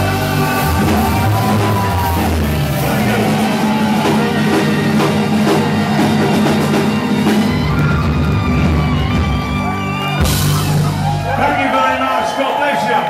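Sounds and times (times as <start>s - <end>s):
live band playing: 0.0s - 12.9s.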